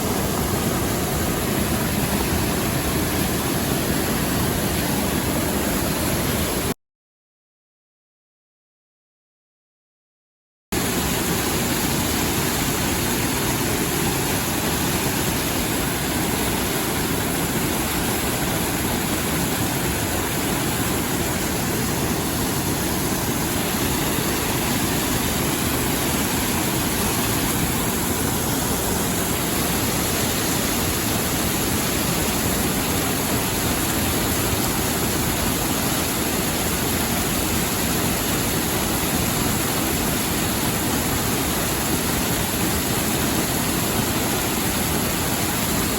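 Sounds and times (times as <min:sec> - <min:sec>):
stream water rushing: 0:00.0 - 0:06.7, 0:10.8 - 0:45.9.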